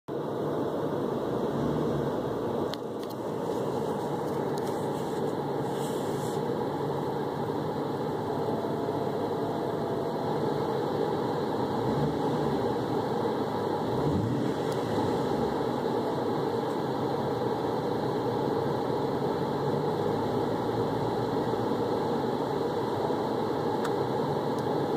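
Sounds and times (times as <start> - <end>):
car engine running: 0.1 - 24.9
faint engine whine: 0.1 - 24.9.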